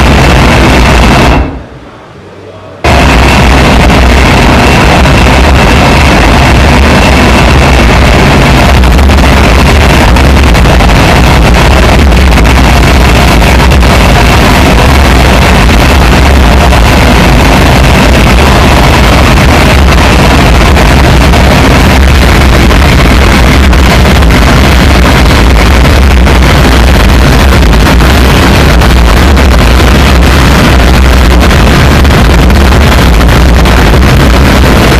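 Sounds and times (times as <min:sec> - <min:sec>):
harsh electronic noise music: 0:00.0 - 0:34.9.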